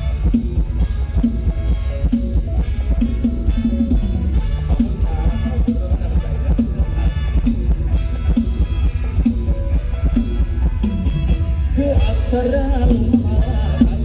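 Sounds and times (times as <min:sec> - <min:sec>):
drum beat: 0:00.0 - 0:14.0
heavy bass line: 0:00.0 - 0:14.0.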